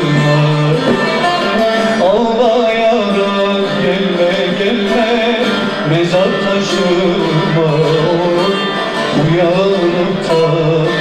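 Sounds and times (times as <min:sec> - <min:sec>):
long-necked lute playing: 0:00.0 - 0:11.0
man singing folk song: 0:00.0 - 0:11.0.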